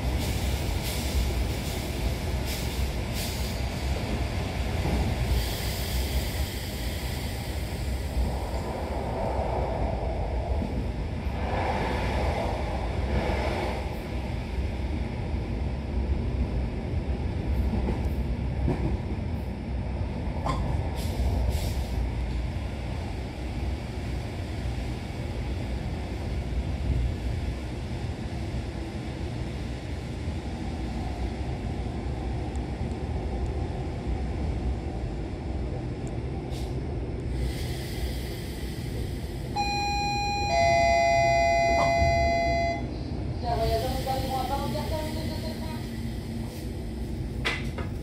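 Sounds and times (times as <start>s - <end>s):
electric train low rumble: 0.0s - 48.0s.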